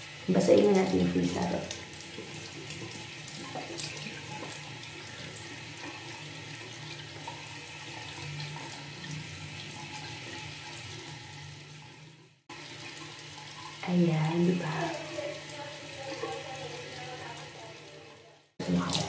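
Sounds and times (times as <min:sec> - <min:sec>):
tap water running into sink: 0:00.0 - 0:19.0.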